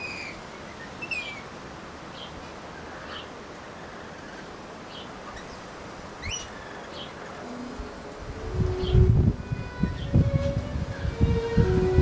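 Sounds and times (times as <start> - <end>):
small birds chirping: 0.0 - 10.4
steady outdoor hiss: 0.0 - 12.0.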